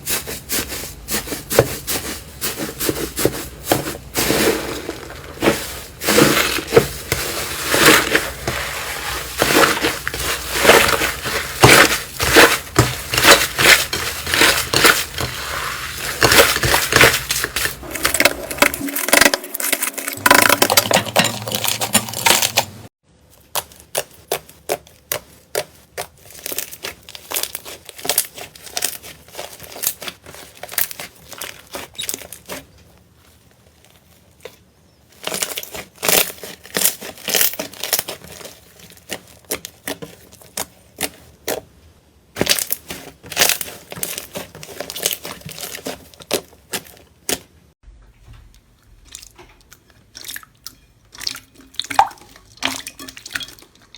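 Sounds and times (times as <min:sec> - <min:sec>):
slime squelching: 0:00.0 - 0:47.6, 0:48.5 - 0:53.9.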